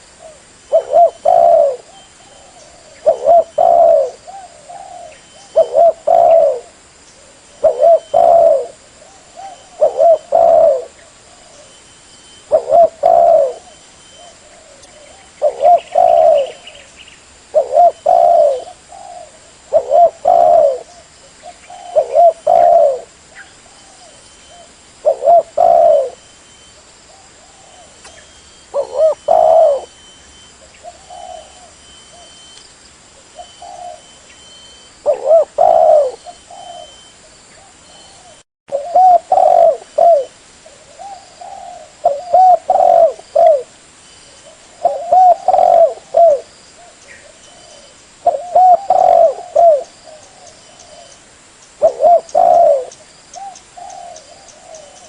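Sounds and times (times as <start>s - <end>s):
dove cooing: 0.0s - 32.6s, 33.2s - 51.2s, 51.8s - 55.0s.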